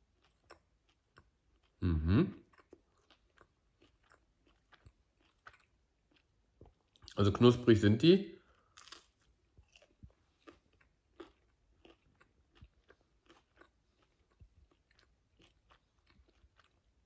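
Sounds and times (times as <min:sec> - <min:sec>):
person crunching nuggets: 0:00.0 - 0:07.3, 0:08.4 - 0:17.0.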